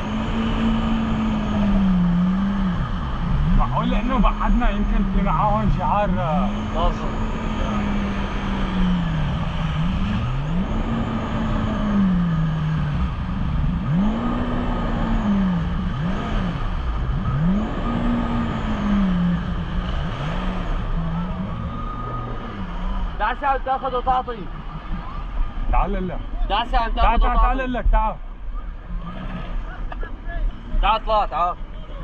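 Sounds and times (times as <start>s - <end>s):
jet ski engine surging: 0.0s - 31.9s.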